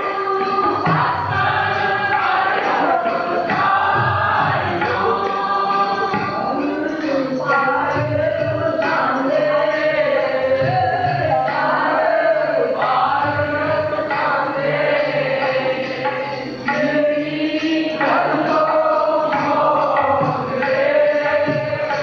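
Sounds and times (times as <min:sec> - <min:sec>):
harmonium: 0:00.0 - 0:22.0
men singing a hymn: 0:00.0 - 0:22.0
tabla drums: 0:00.0 - 0:22.0.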